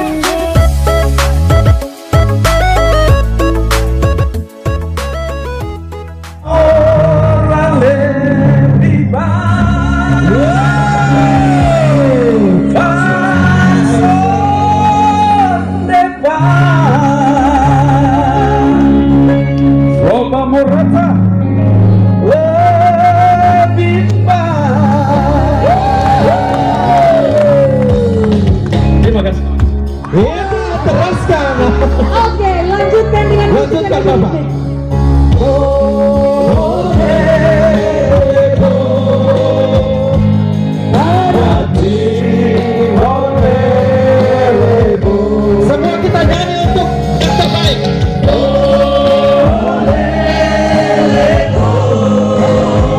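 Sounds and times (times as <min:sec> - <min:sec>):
live band playing: 0:00.0 - 0:52.9.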